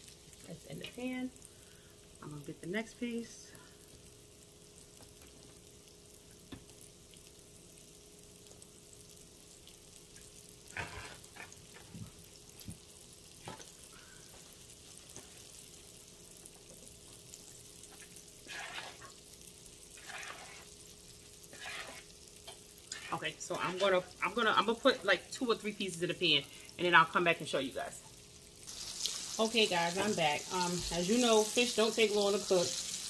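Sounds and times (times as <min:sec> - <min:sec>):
fish sizzling in oil: 0:00.0 - 0:33.0.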